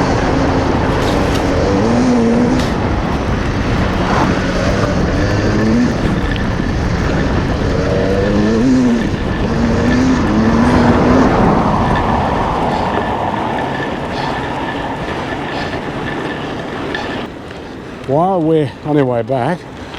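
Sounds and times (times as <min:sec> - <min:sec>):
electric motor drone: 0:00.0 - 0:17.4
wind and tyre rush: 0:00.0 - 0:19.9.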